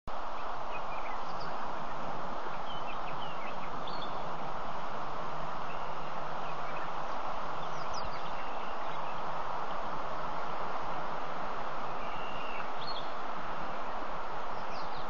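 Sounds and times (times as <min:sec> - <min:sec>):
dense ambient hiss: 0:00.1 - 0:15.0.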